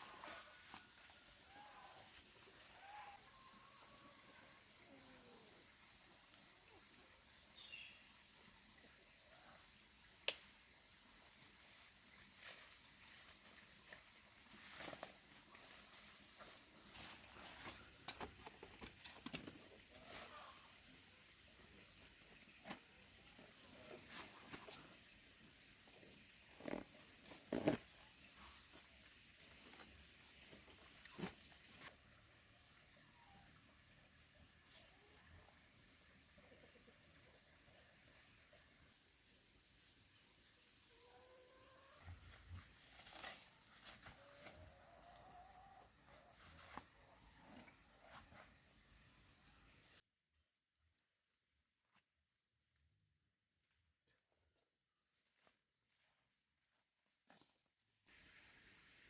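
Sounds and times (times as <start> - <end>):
insects chirring: 0.0 - 50.0, 58.1 - 59.0.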